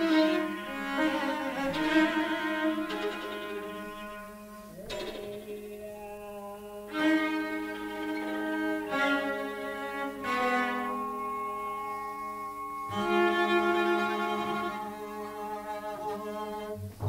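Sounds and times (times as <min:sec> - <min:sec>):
chamber ensemble playing slowly: 0:00.0 - 0:17.0.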